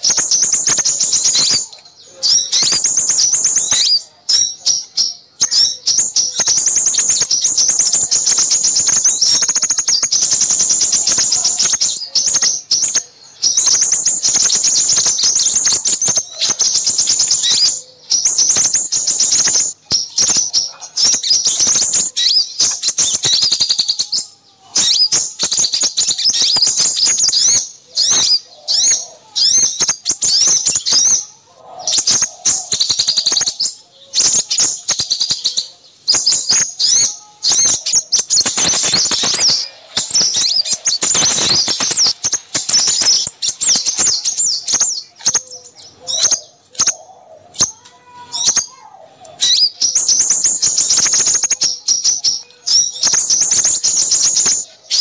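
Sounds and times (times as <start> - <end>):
small songbirds chirping: 0.0 - 55.0.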